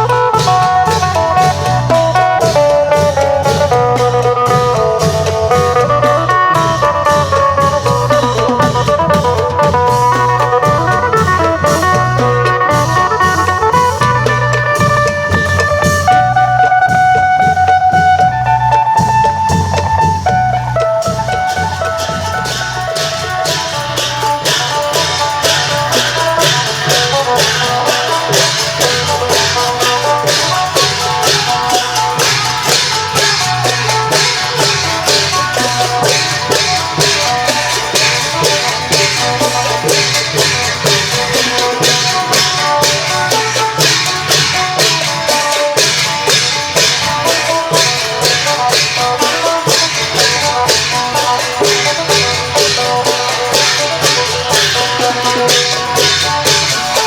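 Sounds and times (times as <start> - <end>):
fast percussion strokes: 0.0 - 57.0
low drum beats: 0.0 - 57.0.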